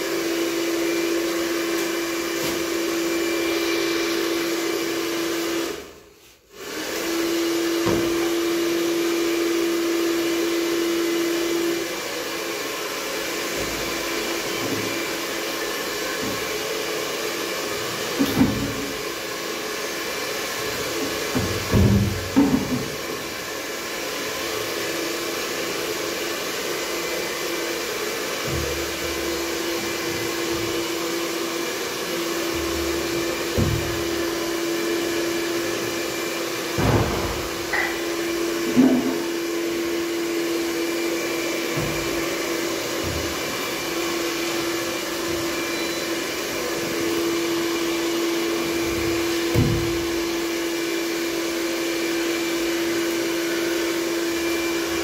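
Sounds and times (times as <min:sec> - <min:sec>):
hair dryer whine: 0:00.0 - 0:55.0.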